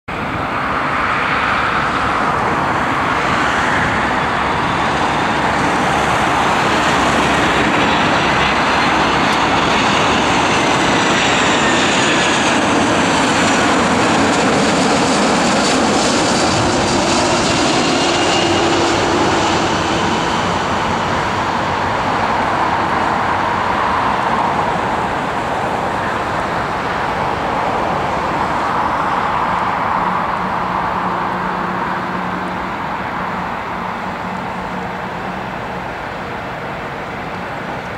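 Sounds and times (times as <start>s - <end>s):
jet airliner flying past: 0.1s - 37.9s.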